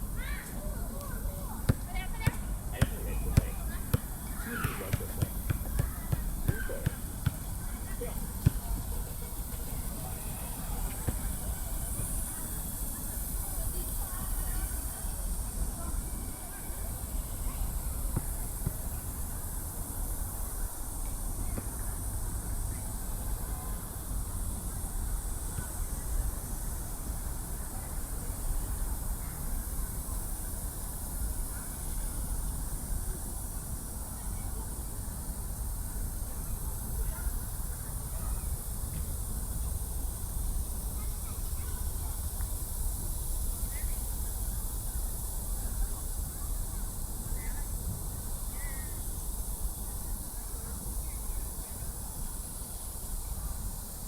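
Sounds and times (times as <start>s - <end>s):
faint distant voices: 0.0s - 54.0s
high hiss: 0.0s - 54.0s.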